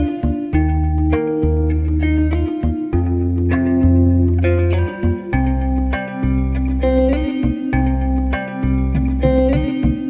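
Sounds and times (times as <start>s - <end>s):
low bass line: 0.0s - 10.0s.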